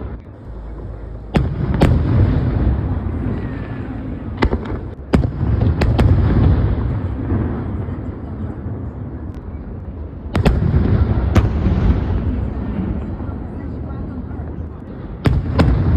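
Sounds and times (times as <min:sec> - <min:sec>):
low rumble of booms: 0:00.0 - 0:13.5
fireworks sharp bangs: 0:00.0 - 0:15.9.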